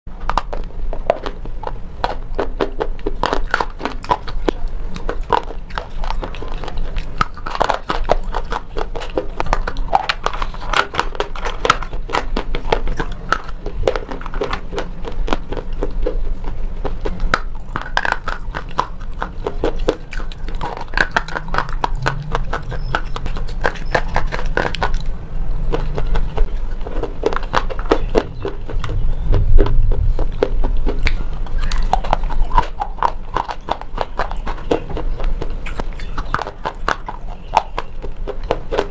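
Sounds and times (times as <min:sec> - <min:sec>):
low hum: 0:00.1 - 0:38.9
slate pencils crunching: 0:00.2 - 0:38.9.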